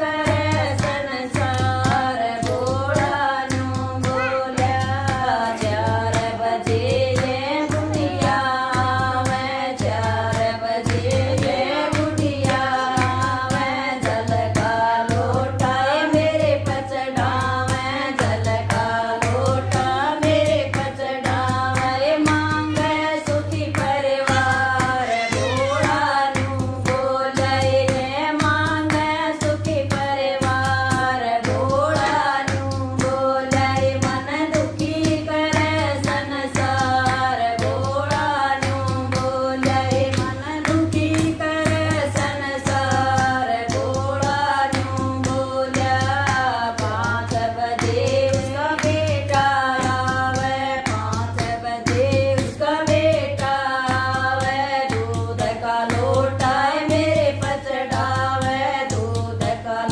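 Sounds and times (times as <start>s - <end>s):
hands clapping in rhythm: 0.0s - 59.9s
women singing devotional song: 0.0s - 59.9s.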